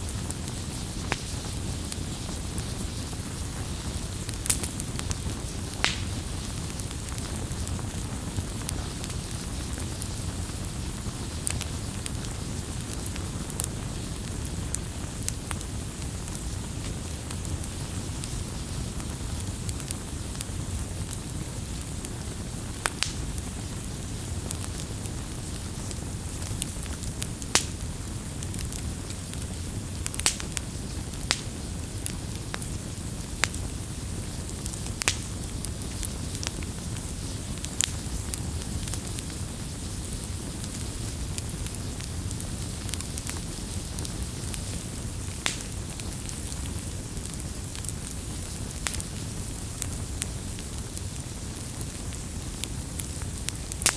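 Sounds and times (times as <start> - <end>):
bonfire rustling: 0.0 - 53.9
fire crackles and pops: 0.0 - 53.9.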